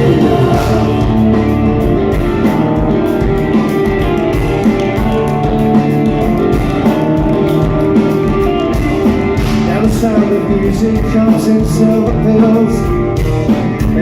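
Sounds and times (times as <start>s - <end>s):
drum kit beat: 0.0s - 14.0s
electric guitars holding chords: 0.0s - 14.0s.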